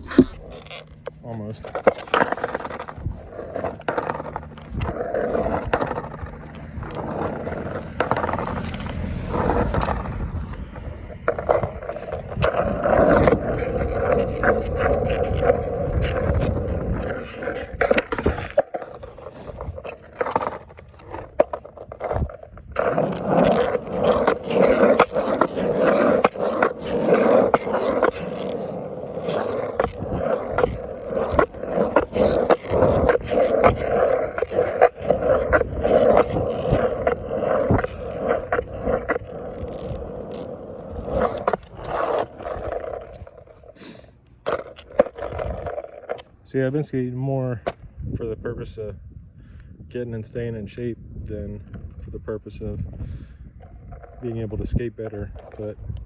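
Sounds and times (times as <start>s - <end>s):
skateboard scraping and knocking: 0.0s - 46.4s, 51.4s - 56.0s
skateboard wheels rolling on pavement: 0.0s - 49.1s, 49.8s - 56.0s.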